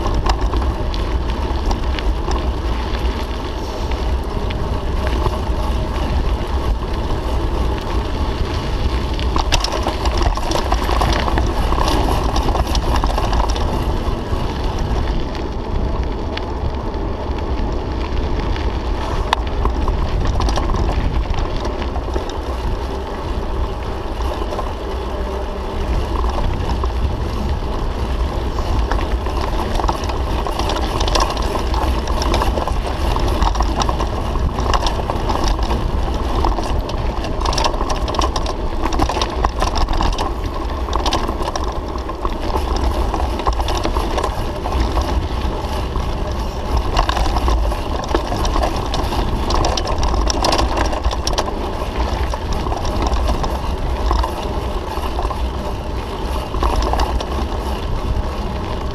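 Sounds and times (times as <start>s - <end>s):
bike rattling over bumps: 0.0s - 58.9s
wind buffeting microphone: 0.0s - 58.9s.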